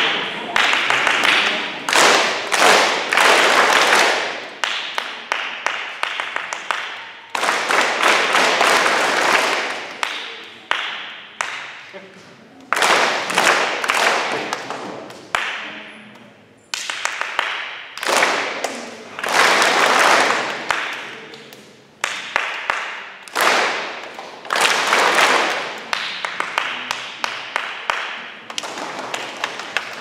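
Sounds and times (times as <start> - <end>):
people clapping: 0.0 - 30.0.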